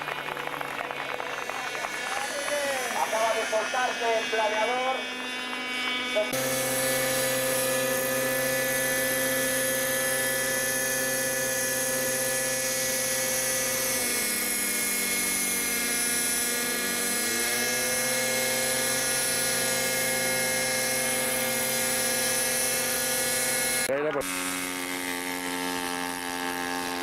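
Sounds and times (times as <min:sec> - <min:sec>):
model aircraft engine whining: 0:00.0 - 0:27.0.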